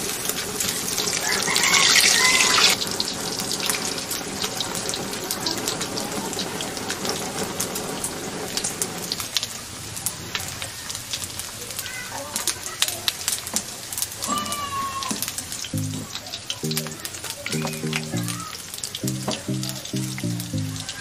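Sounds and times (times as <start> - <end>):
meat frying in oil: 0.0 - 20.1.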